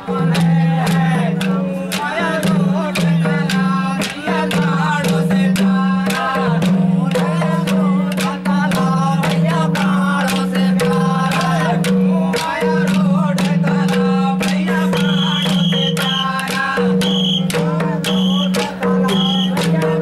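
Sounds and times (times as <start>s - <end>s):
hand drum beating: 0.0s - 20.0s
men singing: 0.0s - 20.0s.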